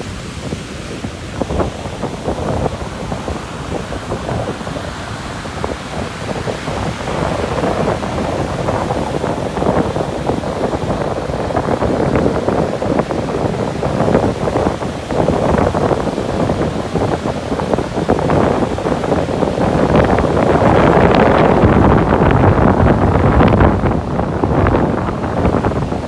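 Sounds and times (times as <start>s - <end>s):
sea waves breaking on shore: 0.0s - 26.0s
wind buffeting microphone: 0.0s - 26.0s.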